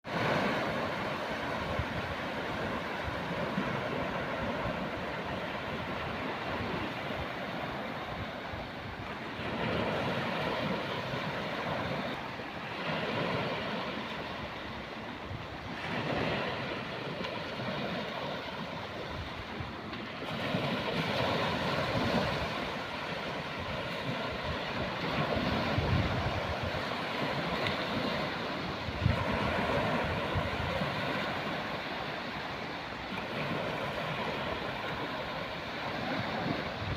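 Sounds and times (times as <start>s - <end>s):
sea waves washing onto beach: 0.0s - 36.9s
wind on microphone: 0.0s - 36.9s.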